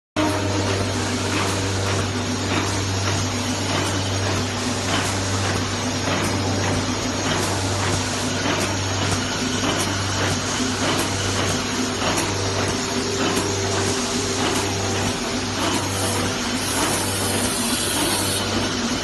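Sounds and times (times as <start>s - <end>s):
machine whir and hum: 0.2s - 19.0s.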